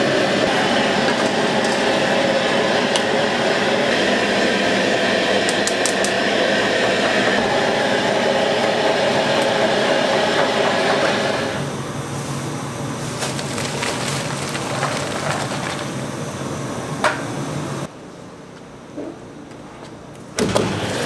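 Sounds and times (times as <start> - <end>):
gas burner roaring: 0.0 - 17.9, 20.3 - 21.0.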